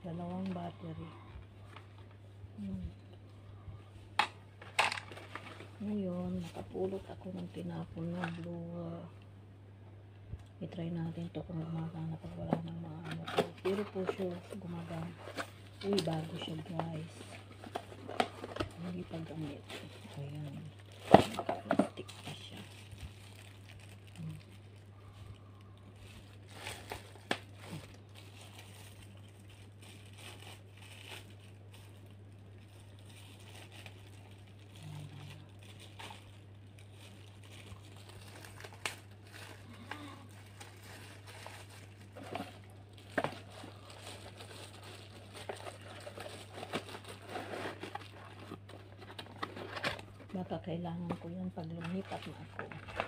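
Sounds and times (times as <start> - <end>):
steady low hum: 0.0 - 53.0
plastic packaging crinkling: 4.2 - 9.1, 11.0 - 53.0.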